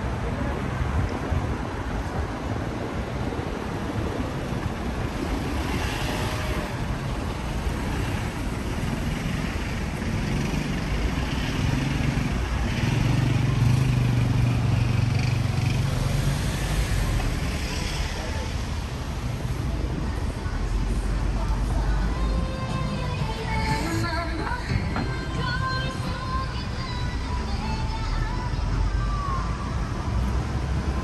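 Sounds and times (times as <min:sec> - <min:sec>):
vehicle engines passing: 0:00.0 - 0:31.0.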